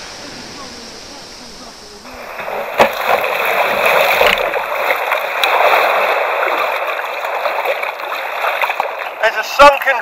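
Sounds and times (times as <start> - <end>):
water splashing against kayak: 0.0 - 10.0.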